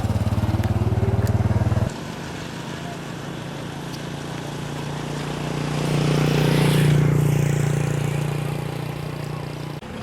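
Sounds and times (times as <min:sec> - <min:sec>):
vehicle engine passing: 0:00.0 - 0:10.0.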